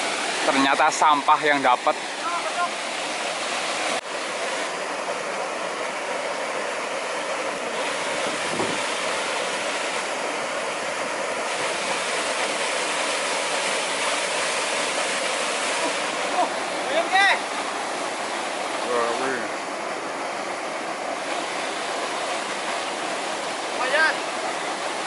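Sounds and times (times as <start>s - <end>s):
waterfall rushing into pool: 0.0s - 25.0s.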